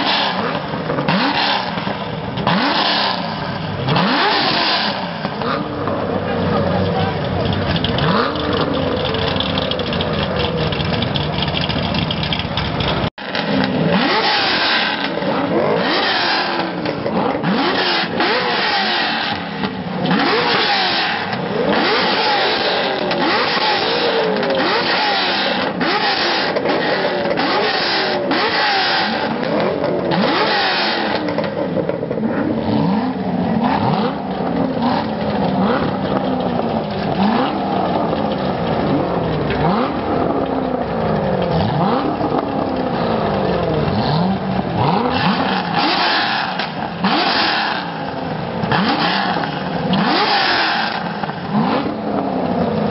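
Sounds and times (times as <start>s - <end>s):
car engines revving hard: 0.0s - 52.9s.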